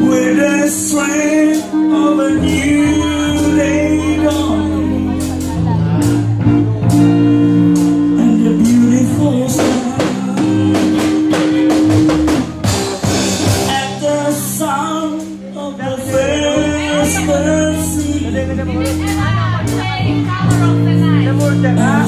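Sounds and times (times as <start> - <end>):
drum kit: 0.0 - 22.0
electric bass guitar: 0.0 - 22.0
person singing: 0.0 - 22.0.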